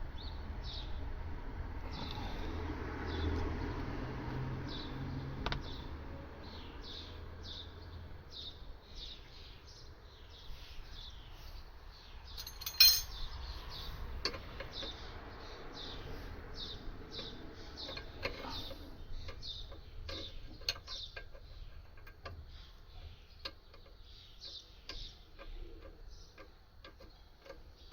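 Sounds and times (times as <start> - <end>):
bird chirping: 4.6 - 27.9.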